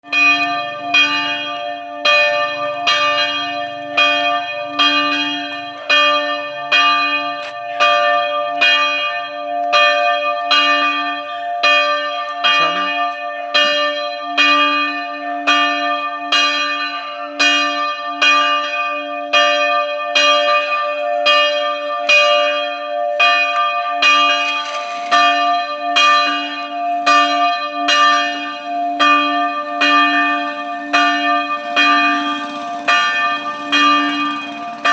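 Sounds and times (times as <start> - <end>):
church bell ringing: 0.0 - 34.9.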